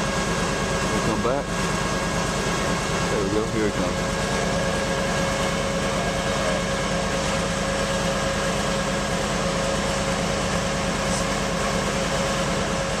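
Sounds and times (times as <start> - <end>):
engine droning steadily: 0.0 - 13.0.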